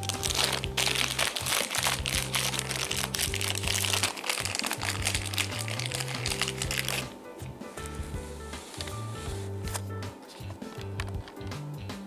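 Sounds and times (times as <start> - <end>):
background music with bass notes: 0.0 - 12.0.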